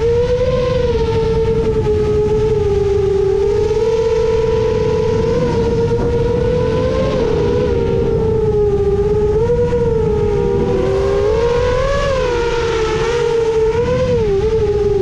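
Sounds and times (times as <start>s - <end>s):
low rushing noise: 0.0s - 15.0s
quadcopter motor whine: 0.0s - 15.0s.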